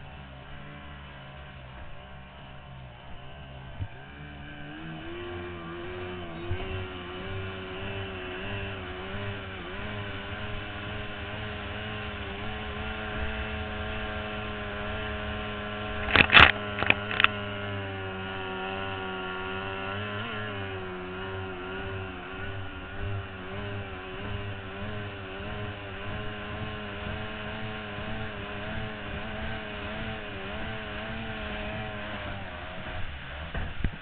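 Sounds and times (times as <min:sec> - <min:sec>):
racing outboard engine: 0:00.0 - 0:34.0.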